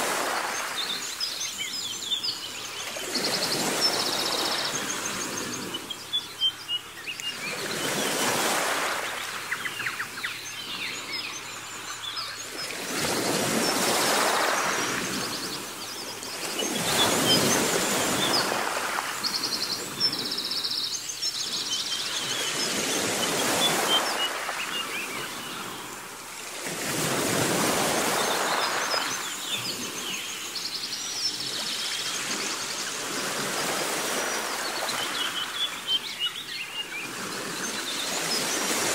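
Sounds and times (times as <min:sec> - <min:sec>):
sea waves washing ashore: 0:00.0 - 0:38.9
small birds chirping: 0:00.4 - 0:26.4, 0:27.8 - 0:33.2.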